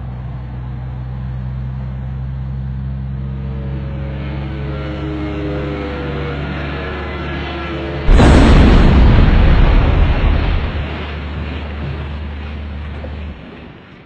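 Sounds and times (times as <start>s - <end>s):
aircraft engine drone: 0.0s - 14.0s
high engine whine: 0.0s - 14.0s.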